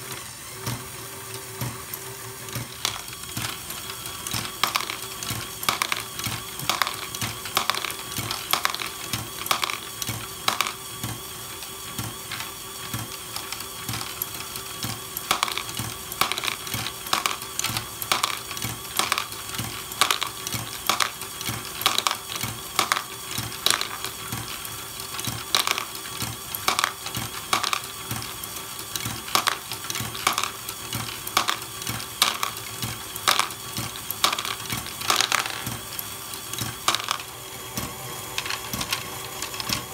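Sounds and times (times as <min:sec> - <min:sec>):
motor and gear whir: 0:00.0 - 0:39.9
plastic balls clattering: 0:02.6 - 0:11.2, 0:12.1 - 0:39.9.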